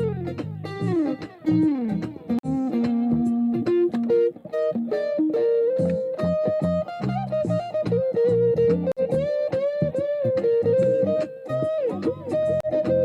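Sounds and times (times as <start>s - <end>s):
guitar plucking melody: 0.0s - 13.0s.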